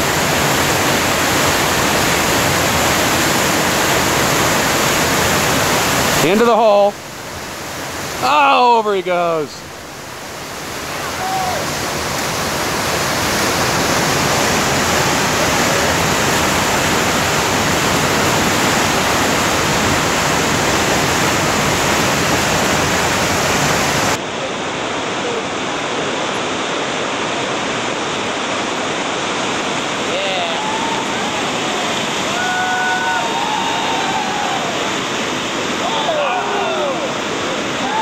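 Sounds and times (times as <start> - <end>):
rushing whitewater rapids: 0.0 - 38.0.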